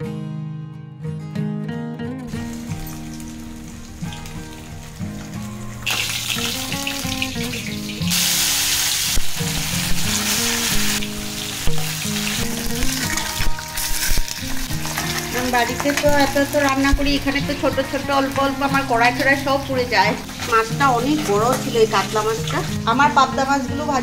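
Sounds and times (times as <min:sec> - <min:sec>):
background music with held notes: 0:00.0 - 0:24.0
fish sizzling in hot oil: 0:02.3 - 0:23.1.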